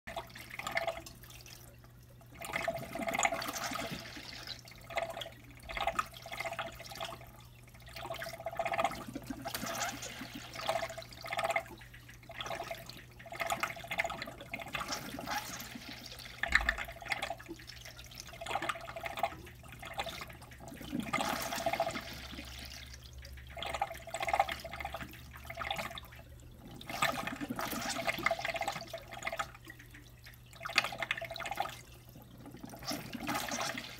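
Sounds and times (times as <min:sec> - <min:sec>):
water running and trickling: 0:00.1 - 0:33.9.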